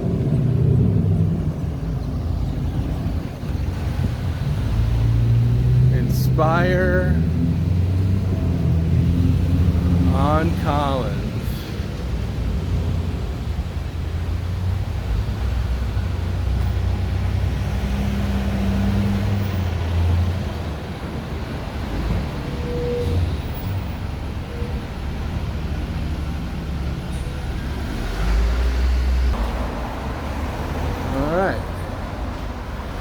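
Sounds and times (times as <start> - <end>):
vehicles passing on a street: 0.0 - 33.0.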